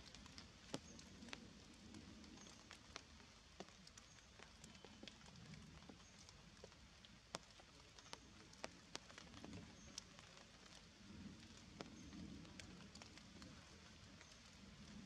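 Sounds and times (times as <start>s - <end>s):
rainwater dripping from leaves: 0.0s - 15.0s.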